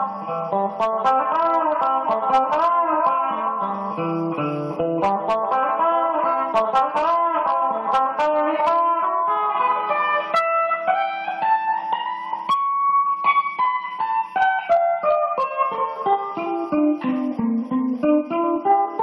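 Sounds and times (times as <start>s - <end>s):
guitar plucked melody: 0.0s - 19.0s.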